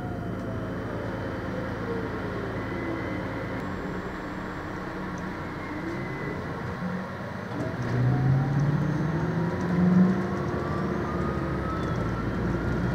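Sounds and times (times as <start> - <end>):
bus engine hum: 0.0 - 12.9
electric drive whine: 0.0 - 12.9.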